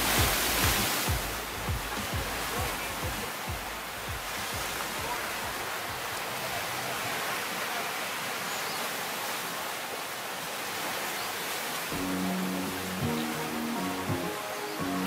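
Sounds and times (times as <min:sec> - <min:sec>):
ocean surf washing on shore: 0:00.0 - 0:15.0.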